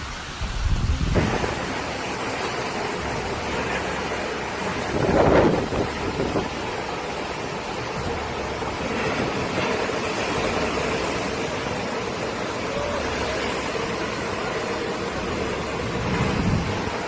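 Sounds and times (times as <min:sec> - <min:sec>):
hurricane wind and water rushing: 0:00.0 - 0:17.0.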